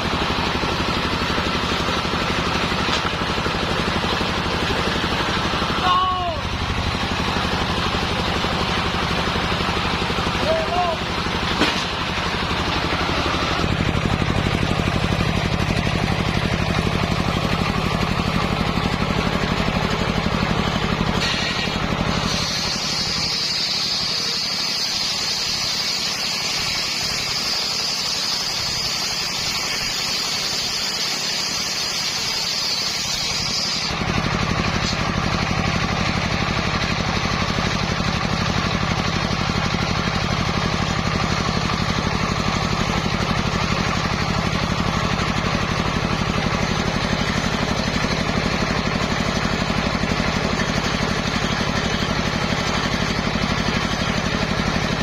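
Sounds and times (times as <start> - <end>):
engine-driven circular saw running: 0.0 - 55.0
saw blade whining through wood: 0.0 - 55.0.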